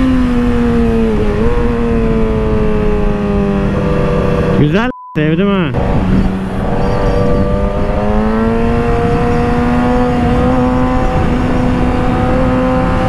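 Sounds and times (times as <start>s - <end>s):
wind noise: 0.0s - 4.6s, 5.7s - 13.0s.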